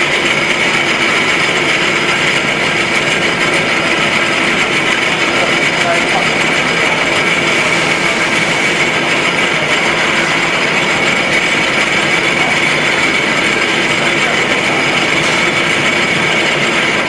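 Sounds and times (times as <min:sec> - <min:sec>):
high whine: 0:00.0 - 0:17.0
milling machine running: 0:00.0 - 0:17.0.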